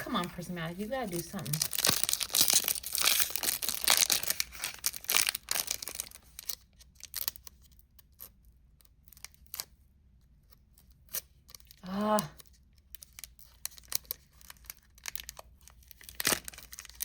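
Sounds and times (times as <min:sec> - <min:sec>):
foil wrapper crinkling and tearing: 0:00.1 - 0:09.8, 0:10.8 - 0:11.8, 0:12.4 - 0:17.0.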